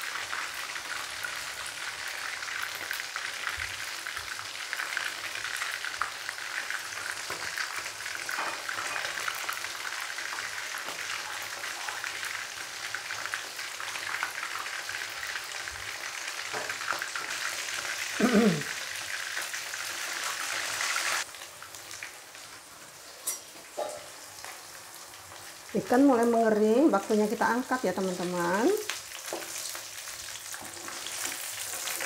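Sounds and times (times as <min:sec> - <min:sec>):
fish deep-frying in hot oil: 0:00.0 - 0:32.0.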